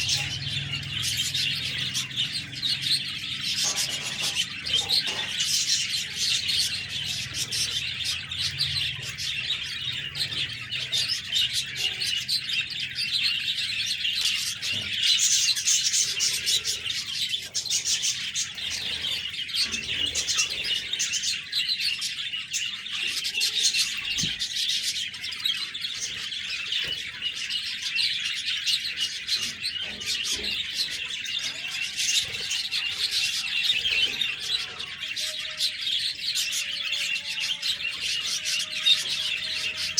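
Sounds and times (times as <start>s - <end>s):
budgies chirping: 0.0s - 39.9s.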